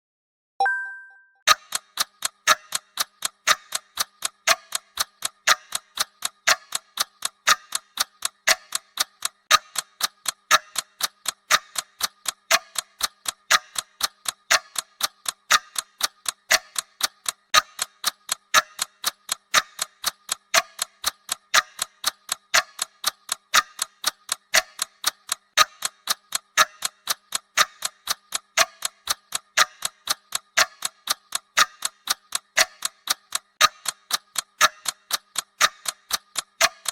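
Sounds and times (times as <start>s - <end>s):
timer ticking: 0.6s - 36.9s.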